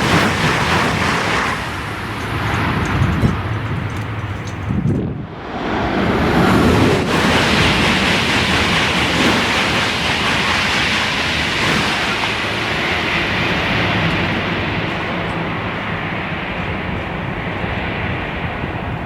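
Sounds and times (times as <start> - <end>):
high-speed train passing: 0.0 - 19.0.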